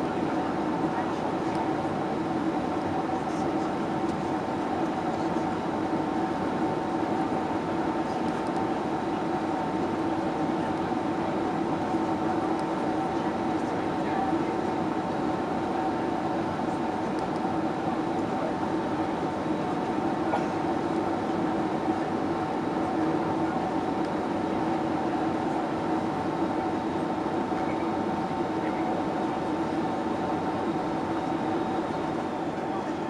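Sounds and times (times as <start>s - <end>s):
airliner engine cabin hum: 0.0s - 33.0s.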